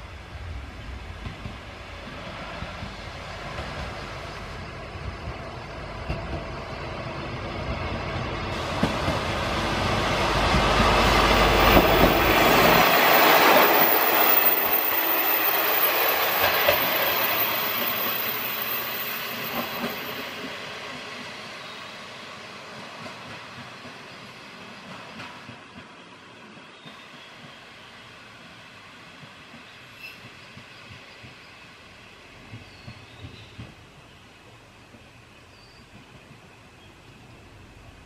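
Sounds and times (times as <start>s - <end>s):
diesel railcar running past: 0.0s - 38.0s.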